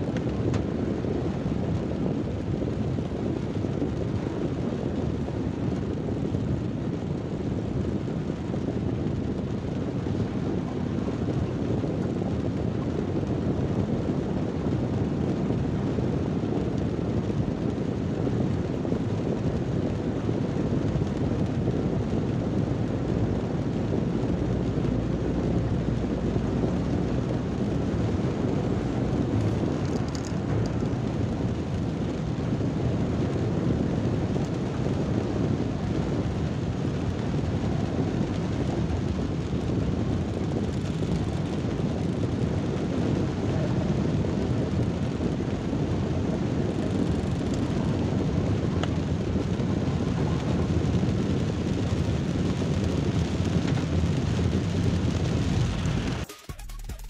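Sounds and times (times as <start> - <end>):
car cabin noise in heavy rain: 0.0 - 57.0.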